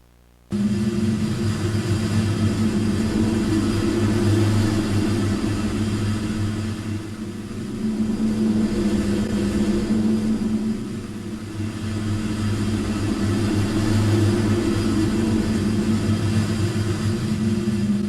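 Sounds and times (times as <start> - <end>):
loud harsh droning hum: 0.0 - 18.0.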